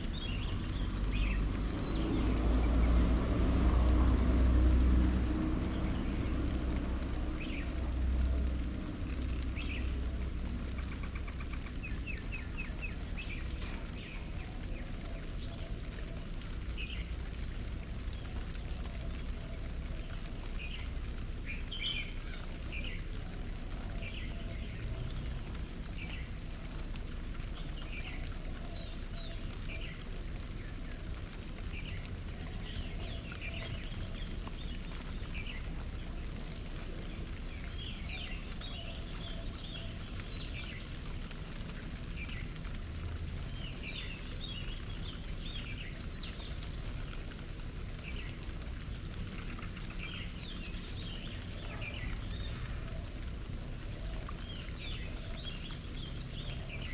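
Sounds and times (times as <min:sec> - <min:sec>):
birds chirping: 0:00.0 - 0:03.1, 0:05.1 - 0:56.9.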